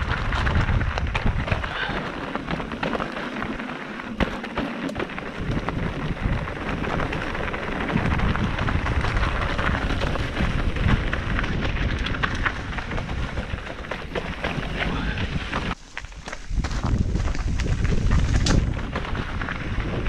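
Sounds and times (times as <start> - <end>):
bike tyres crunching over stones: 0.0 - 20.0.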